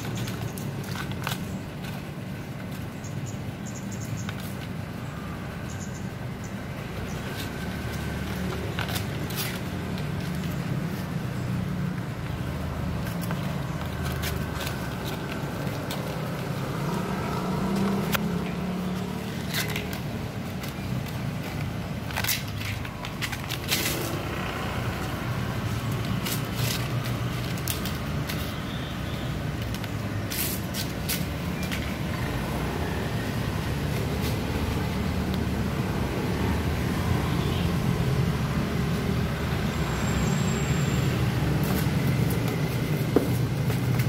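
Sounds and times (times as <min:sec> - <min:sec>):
street traffic hum: 0:00.0 - 0:44.0.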